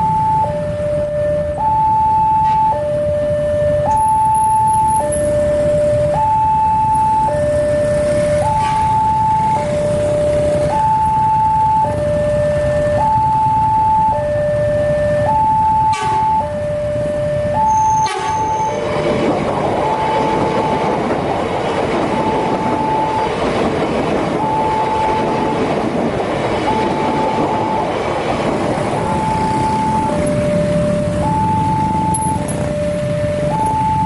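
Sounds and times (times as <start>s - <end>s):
train passing with rumble: 0.0s - 34.0s
two-tone crossing alarm: 0.0s - 34.0s.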